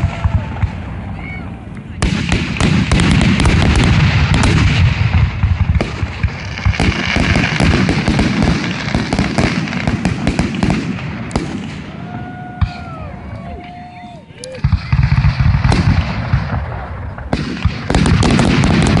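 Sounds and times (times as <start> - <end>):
fireworks crackle: 0.0 - 13.0, 14.6 - 19.0
fireworks bangs: 0.0 - 13.8, 14.6 - 19.0.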